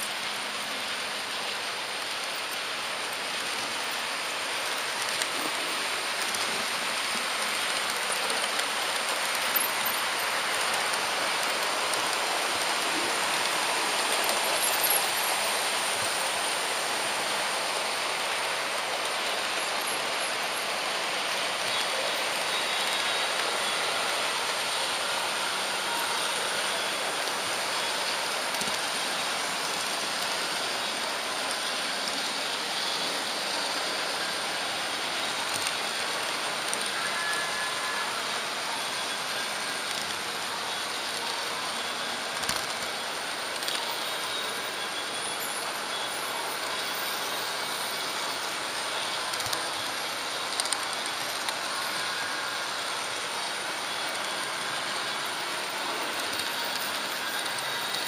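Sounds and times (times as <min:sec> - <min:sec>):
model train rolling on track: 0:00.0 - 0:58.0.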